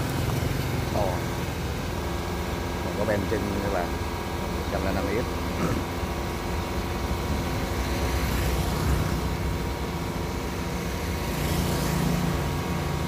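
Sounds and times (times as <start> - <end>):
diesel machinery engine rumbling: 0.0 - 13.0.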